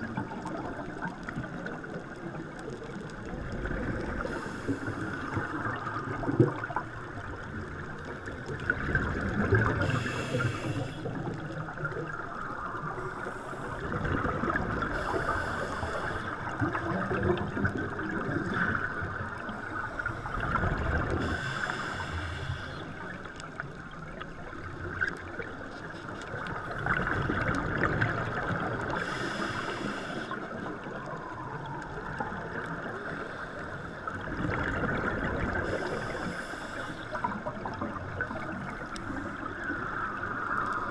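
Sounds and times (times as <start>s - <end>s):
muffled underwater rush: 0.0s - 40.9s
regulator bubbles gurgling: 0.0s - 40.9s.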